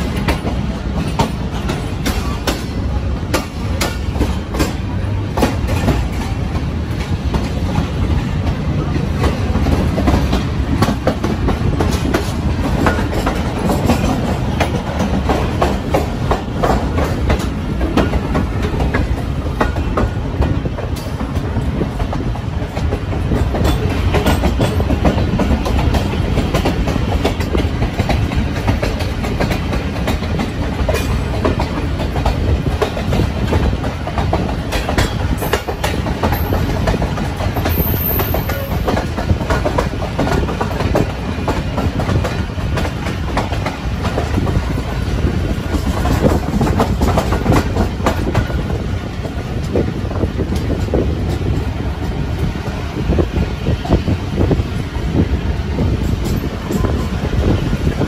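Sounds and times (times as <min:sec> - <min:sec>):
train rumbling on rails: 0:00.0 - 0:58.0
wheels clicking over rail joints: 0:00.0 - 0:58.0.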